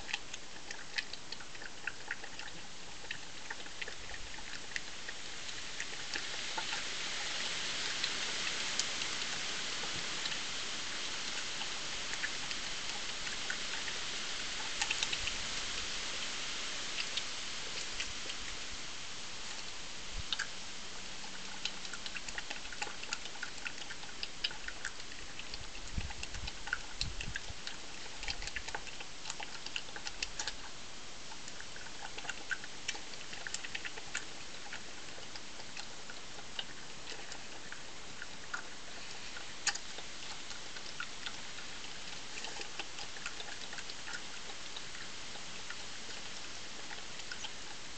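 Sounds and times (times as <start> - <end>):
badger chewing crunches: 0.0 - 47.9
steady hiss: 0.0 - 47.9.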